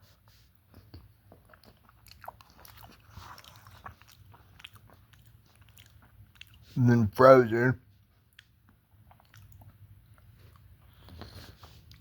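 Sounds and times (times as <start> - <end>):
faint chewing: 0.3 - 6.8, 8.0 - 12.0.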